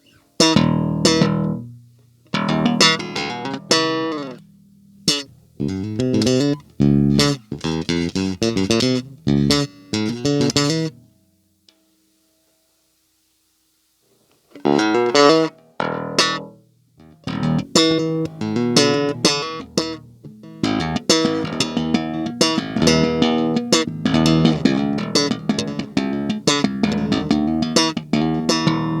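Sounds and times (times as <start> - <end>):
bass guitar plucked riff: 0.4 - 11.0, 14.7 - 29.0.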